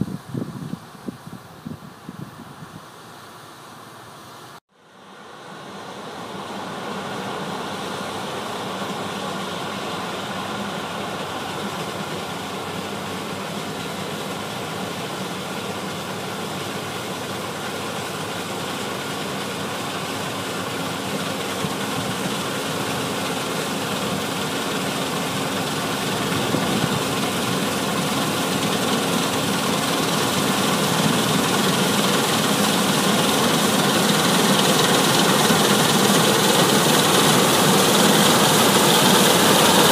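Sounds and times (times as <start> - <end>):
combine harvester droning: 2.9 - 39.9.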